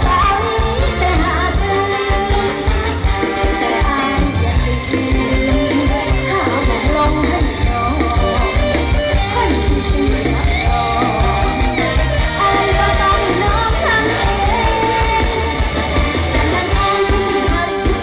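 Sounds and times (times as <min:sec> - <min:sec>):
person singing: 0:00.0 - 0:18.0
pulsing bass beat: 0:00.0 - 0:18.0.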